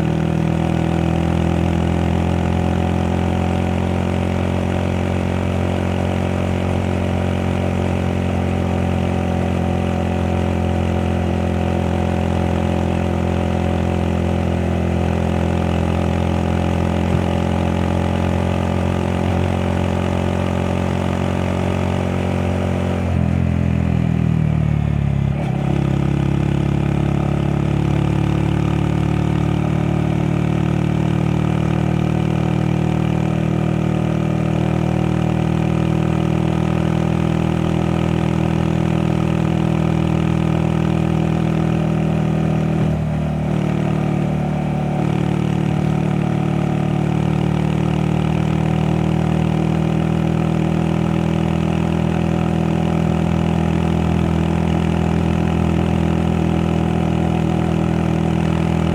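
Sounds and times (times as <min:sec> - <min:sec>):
small motorcycle engine running: 0:08.7 - 0:22.7, 0:25.4 - 0:58.9.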